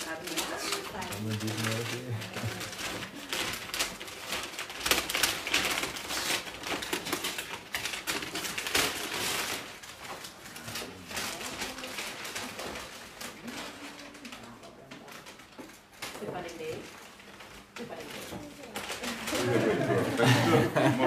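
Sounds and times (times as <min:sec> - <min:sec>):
gift packaging rustling and crinkling: 0:00.0 - 0:21.0.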